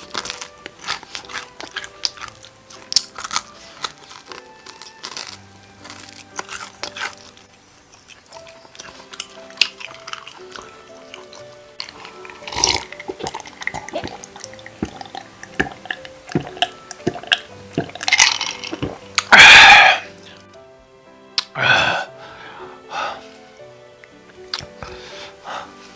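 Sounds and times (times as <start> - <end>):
wet chewing and mouth clicks: 0.0 - 20.4, 24.2 - 25.1
soft background music: 0.0 - 25.9.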